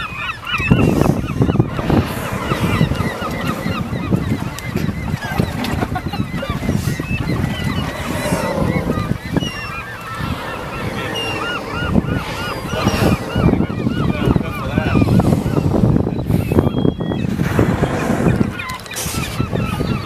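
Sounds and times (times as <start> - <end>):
flock of gulls calling: 0.0 - 20.0.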